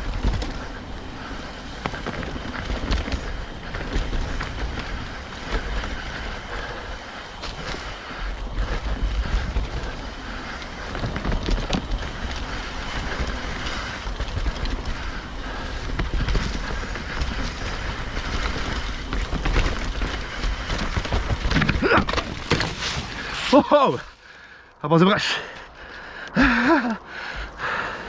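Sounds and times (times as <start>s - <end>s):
wind buffeting microphone: 0.0s - 24.4s
bike rattling clicks and knocks: 0.0s - 24.6s
mountain bike rumbling on dirt: 0.0s - 24.6s, 25.3s - 28.0s.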